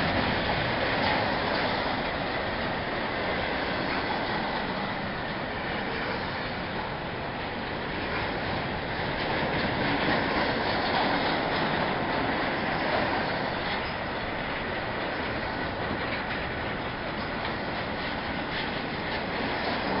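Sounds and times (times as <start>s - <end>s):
freight train wheels rumbling: 0.0s - 20.0s
wheels clacking on rail joints: 0.0s - 20.0s.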